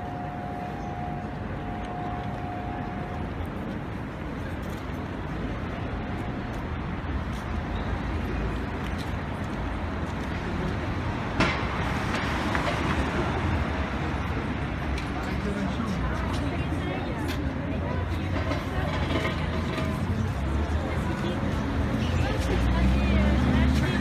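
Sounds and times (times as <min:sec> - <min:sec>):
cars passing: 0:00.0 - 0:24.0.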